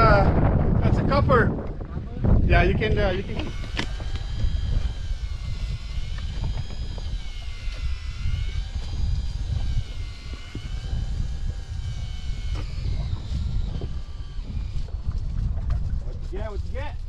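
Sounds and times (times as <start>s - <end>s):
wind buffeting microphone: 0.0s - 17.0s
thin whine rising and falling: 2.4s - 17.0s.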